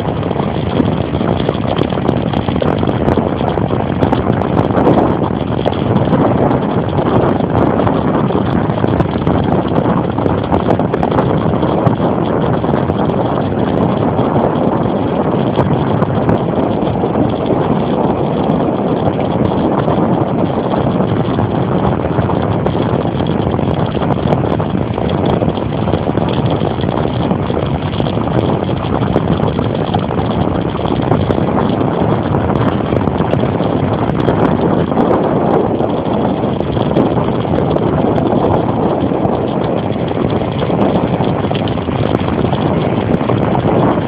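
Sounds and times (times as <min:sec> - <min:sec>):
tyre noise on asphalt: 0:00.0 - 0:44.0
wind buffeting microphone: 0:00.0 - 0:44.0.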